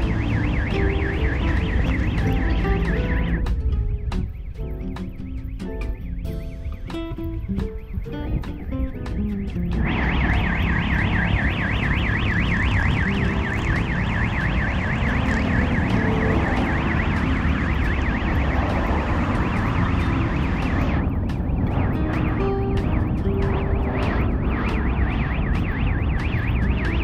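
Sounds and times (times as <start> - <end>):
electronic warbling siren: 0.0 - 3.7, 4.3 - 27.0.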